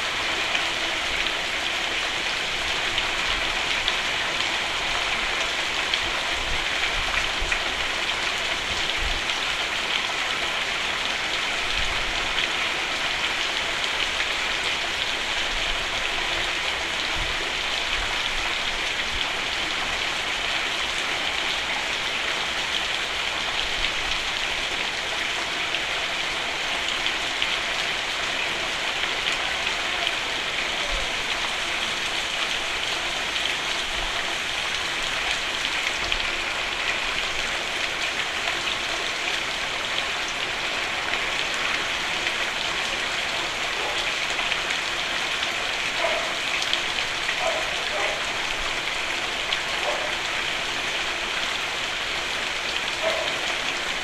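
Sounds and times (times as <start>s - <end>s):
rain on a roof: 0.0s - 54.0s.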